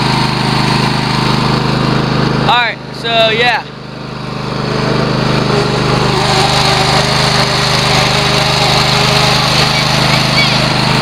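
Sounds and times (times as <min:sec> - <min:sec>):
riding lawn mower engine: 0:00.0 - 0:11.0.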